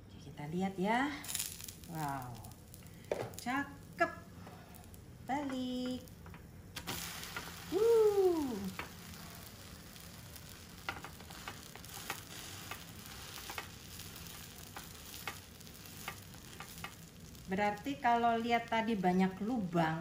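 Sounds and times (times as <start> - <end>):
pancake sizzling in a frying pan: 0.8 - 20.0.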